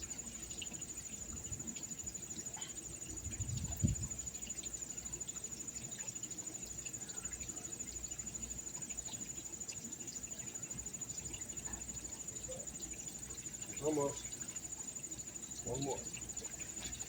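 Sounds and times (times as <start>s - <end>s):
insect trilling: 0.0s - 17.0s.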